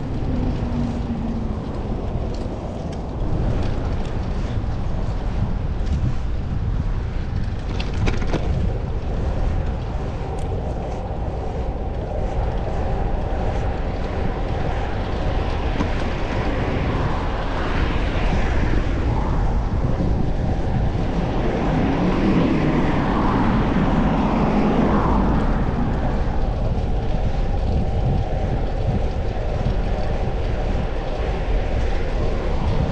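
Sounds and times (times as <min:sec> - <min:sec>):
bicycle road rumble: 0:00.0 - 0:32.9
passing traffic: 0:00.0 - 0:32.9
wind on microphone: 0:00.0 - 0:32.9.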